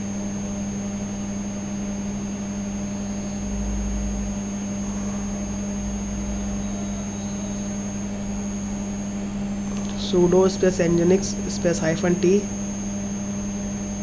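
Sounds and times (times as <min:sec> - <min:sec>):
electrical hum: 0:00.0 - 0:14.0
faint high-pitched whine: 0:00.6 - 0:14.0.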